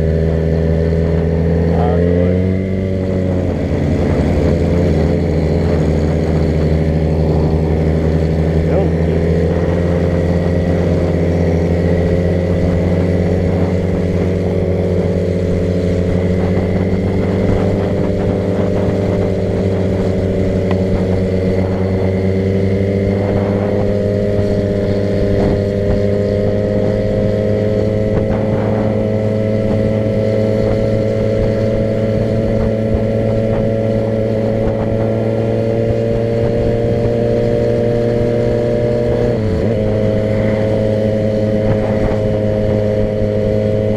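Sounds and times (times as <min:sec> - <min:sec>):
car engine cruising: 0:00.0 - 0:43.9
road rumble: 0:00.0 - 0:43.9.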